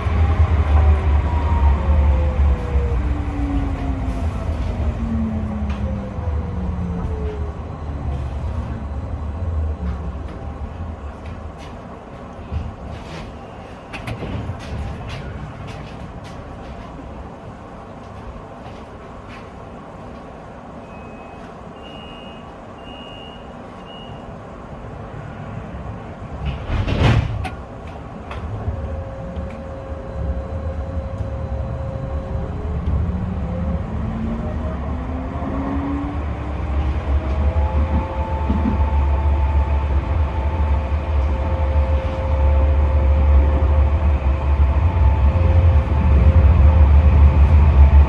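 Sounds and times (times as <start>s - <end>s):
tram running: 0.0s - 48.0s.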